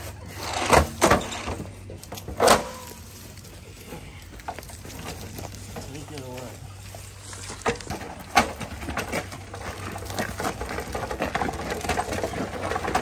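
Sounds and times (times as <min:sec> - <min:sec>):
hand truck wheels crunching: 0:00.0 - 0:13.0.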